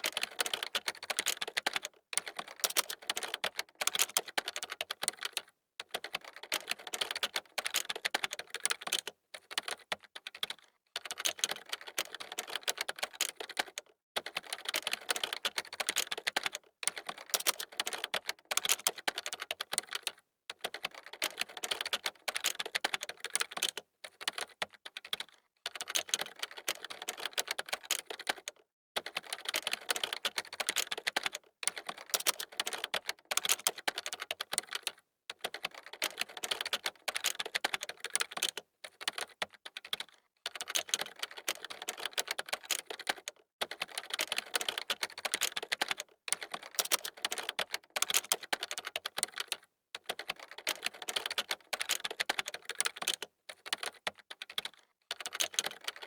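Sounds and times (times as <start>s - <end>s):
keyboard typing: 0.0s - 56.0s.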